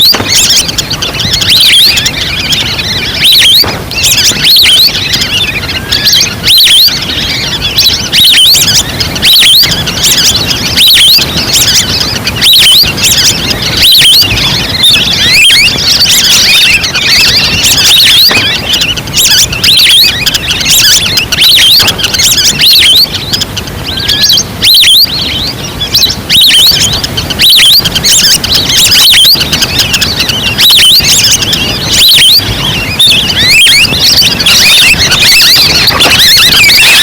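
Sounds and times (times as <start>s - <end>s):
duck call whistles: 0.0s - 37.0s.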